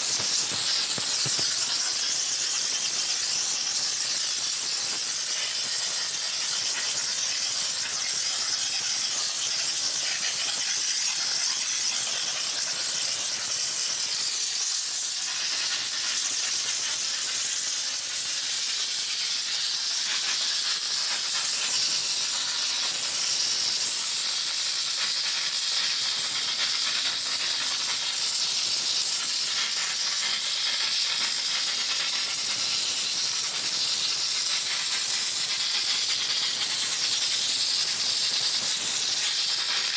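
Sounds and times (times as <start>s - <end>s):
high-pressure steam hissing: 0.0s - 39.9s.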